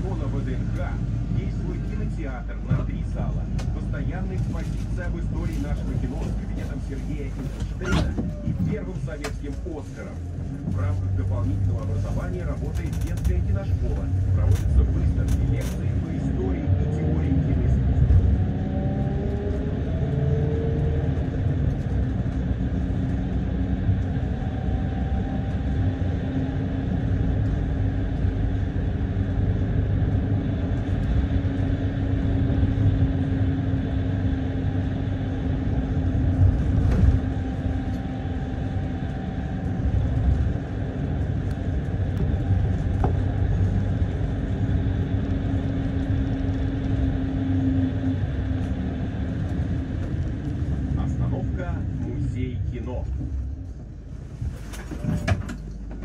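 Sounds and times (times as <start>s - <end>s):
bus engine and road rumble: 0.0s - 56.0s
low hum: 0.0s - 56.0s.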